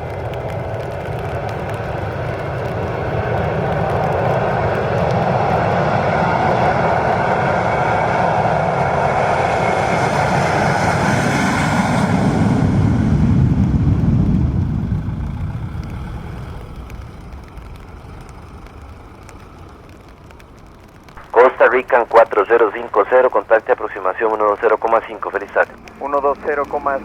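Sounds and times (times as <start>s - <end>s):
jet engines roaring at takeoff: 0.0s - 27.0s.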